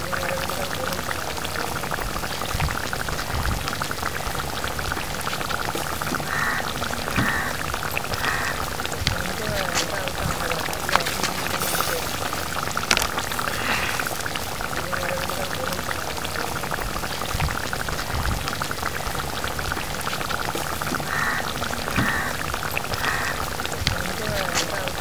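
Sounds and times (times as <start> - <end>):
curry bubbles popping: 0.0 - 25.0.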